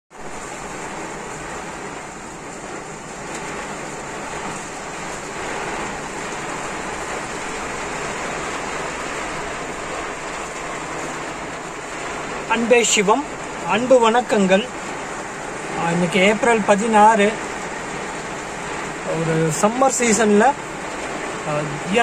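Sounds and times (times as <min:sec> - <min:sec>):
rain on car windshield: 0:00.1 - 0:22.0.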